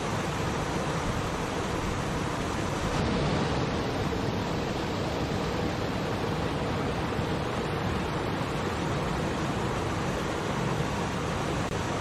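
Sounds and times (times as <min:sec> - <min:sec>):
waterfall rushing over boulders: 0:00.0 - 0:12.0.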